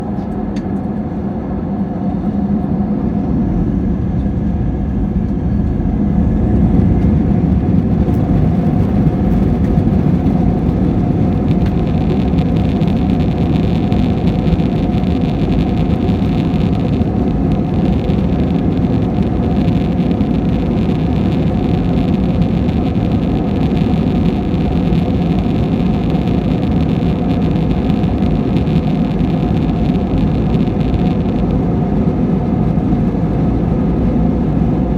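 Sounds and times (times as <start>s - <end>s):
airliner engines roaring: 0.0s - 34.9s.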